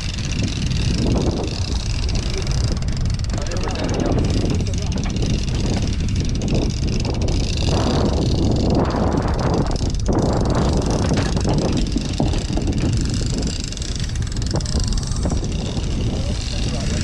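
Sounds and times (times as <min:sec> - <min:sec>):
sea rumble: 0:00.0 - 0:17.0
wind buffeting microphone: 0:00.0 - 0:17.0.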